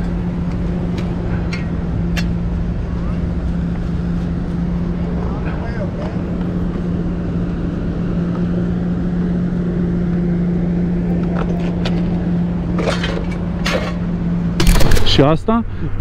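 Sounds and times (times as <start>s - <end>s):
engine hum: 0.0s - 16.0s
low street noise: 0.0s - 16.0s.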